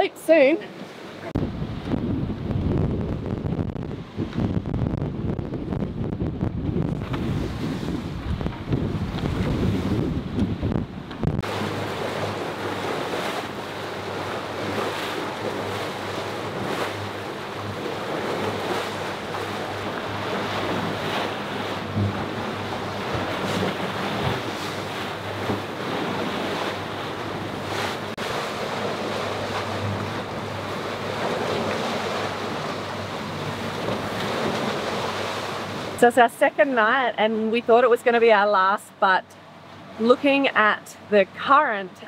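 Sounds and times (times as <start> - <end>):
boat engine hum: 0.0 - 42.0
waves splashing against hull: 0.0 - 42.0
wind buffeting microphone: 1.3 - 36.0.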